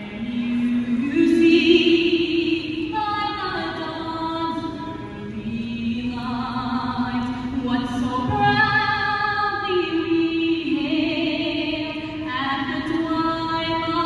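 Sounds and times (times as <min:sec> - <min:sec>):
girl singing into a microphone: 0:00.0 - 0:14.0.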